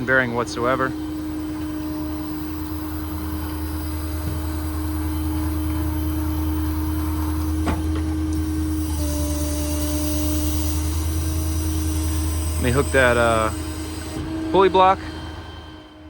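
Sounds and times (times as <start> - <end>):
diesel engine drone: 0.0 - 16.0
hydraulic pump whine: 0.0 - 16.0.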